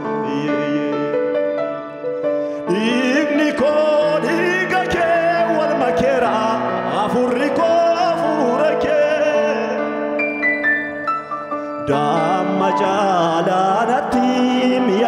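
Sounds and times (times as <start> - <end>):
man singing with vibrato: 0.0 - 1.6, 2.5 - 10.4, 11.5 - 15.0.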